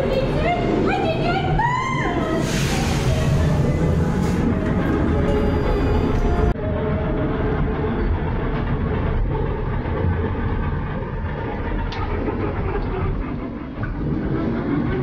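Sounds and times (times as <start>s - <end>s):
ride car rumbling on track: 0.0s - 15.0s.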